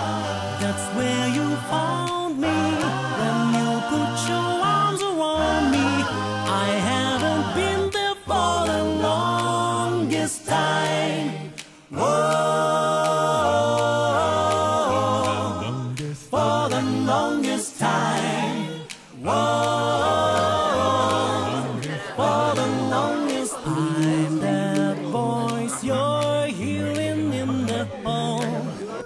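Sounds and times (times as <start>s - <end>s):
voices singing in harmony: 0.0s - 29.0s.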